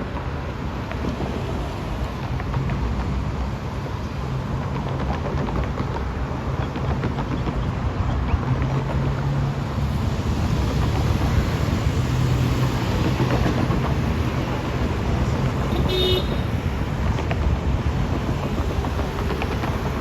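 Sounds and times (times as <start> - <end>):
heavy vehicle hum and rumble: 0.0 - 20.0.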